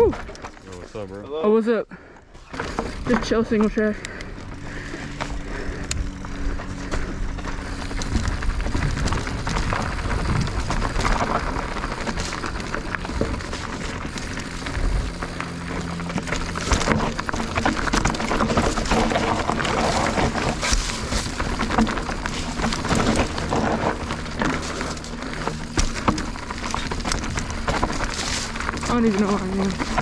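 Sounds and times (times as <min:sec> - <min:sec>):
tyres rolling over rock: 0:00.0 - 0:01.3, 0:02.4 - 0:30.0
bike rattling: 0:00.0 - 0:30.0.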